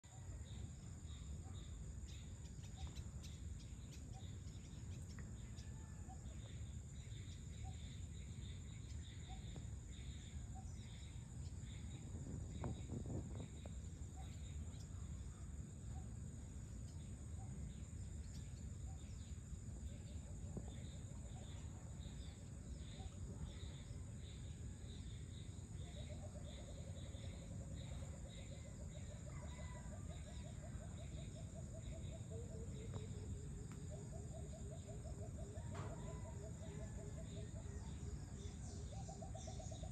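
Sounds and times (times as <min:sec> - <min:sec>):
faint low rumble: 0:00.0 - 0:39.8
insects buzzing and chirring: 0:00.0 - 0:39.9.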